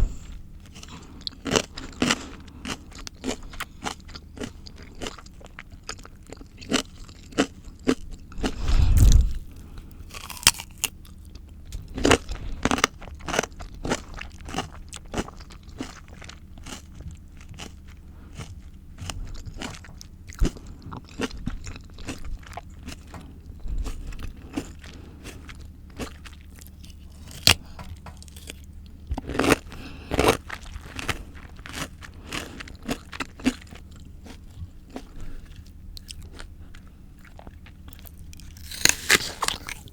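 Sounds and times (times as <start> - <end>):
crunchy fruit being chewed: 0.0 - 39.9.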